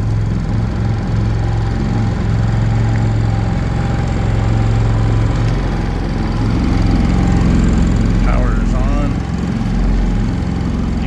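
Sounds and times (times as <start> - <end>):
generators humming: 0.0 - 11.0.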